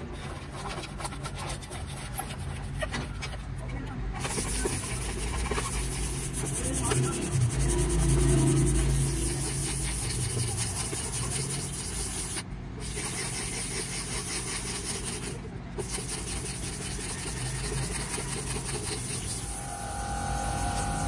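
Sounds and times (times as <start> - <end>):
sandpaper rubbing on plastic: 0.0 - 19.6.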